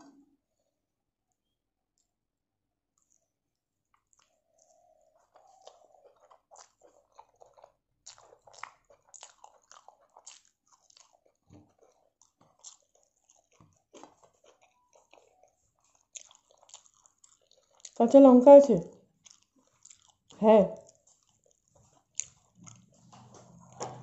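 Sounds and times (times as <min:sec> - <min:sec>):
chewing and crunching food: 0:01.9 - 0:02.2, 0:02.8 - 0:24.0.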